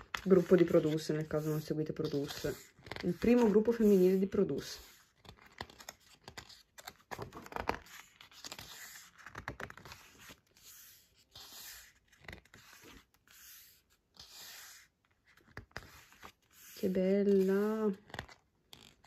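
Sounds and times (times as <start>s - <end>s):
paper pages rustling: 0.0s - 19.0s.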